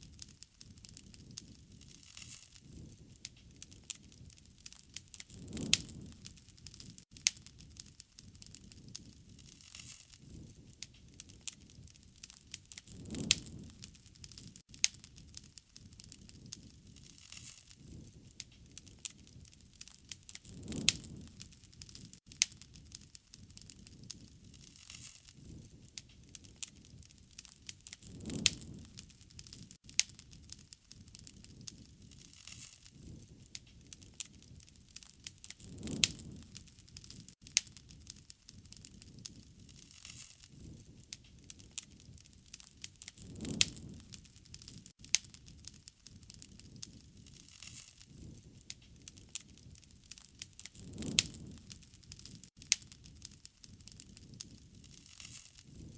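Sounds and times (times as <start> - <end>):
low rumble of flame: 0.0 - 55.9
wood fire crackling and popping: 0.0 - 55.9.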